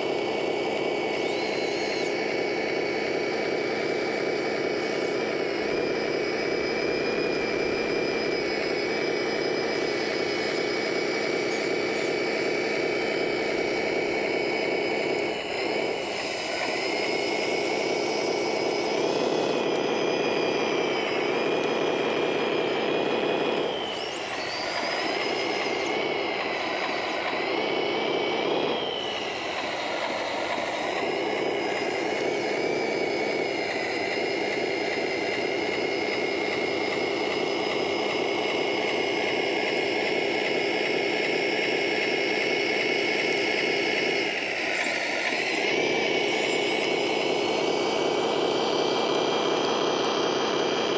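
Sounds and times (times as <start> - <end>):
electric motors whining: 0.0 - 50.9.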